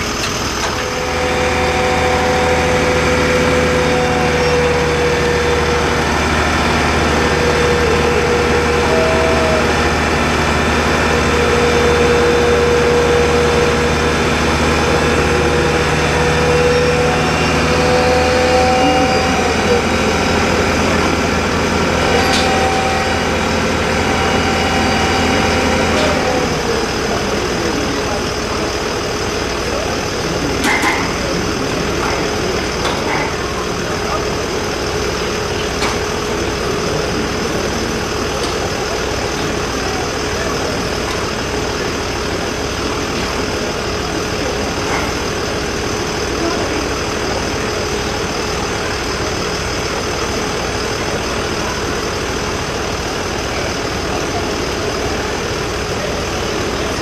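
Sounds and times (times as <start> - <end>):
diesel engine drone: 0.0 - 57.0
steady whine: 0.0 - 57.0.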